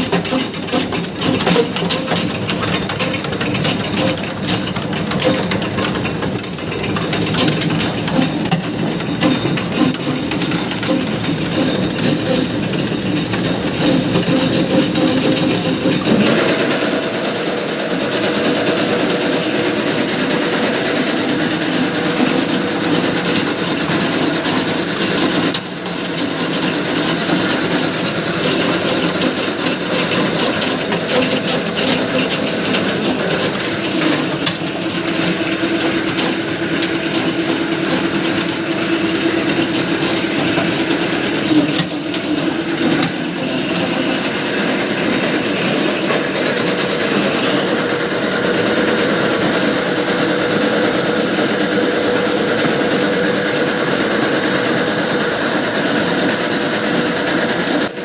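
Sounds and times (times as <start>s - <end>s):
nut splitting machine clattering: 0.0s - 58.0s.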